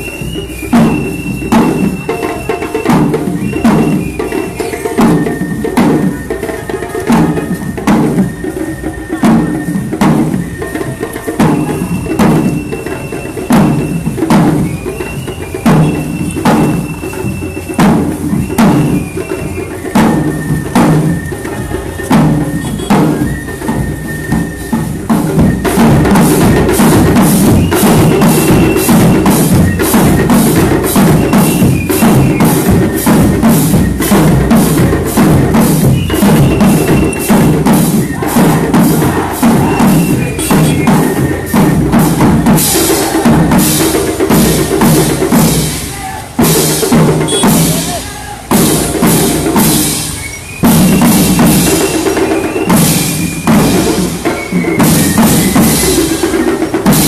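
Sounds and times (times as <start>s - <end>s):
marching band drums: 0.0s - 57.0s.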